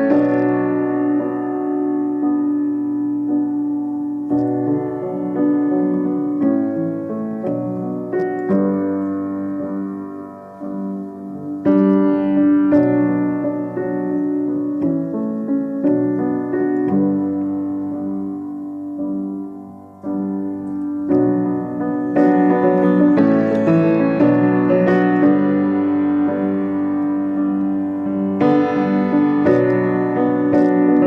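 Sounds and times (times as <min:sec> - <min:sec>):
piano playing slow chords: 0:00.0 - 0:31.0.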